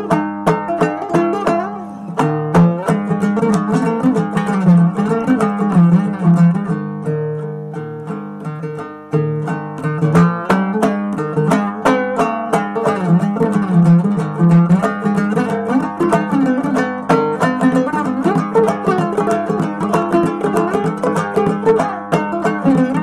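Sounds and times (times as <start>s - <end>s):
plucked string music: 0.0s - 23.0s.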